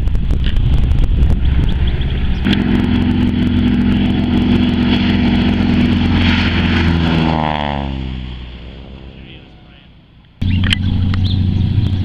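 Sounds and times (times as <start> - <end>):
propeller plane fly-by: 0.0 - 12.0.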